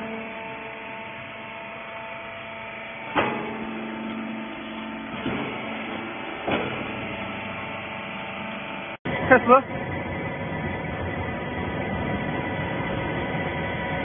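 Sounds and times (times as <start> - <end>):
baler machinery humming: 0.0 - 14.0.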